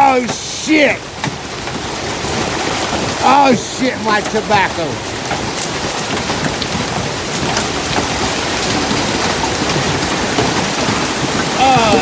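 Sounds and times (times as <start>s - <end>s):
hail and rain pounding: 0.0s - 12.0s.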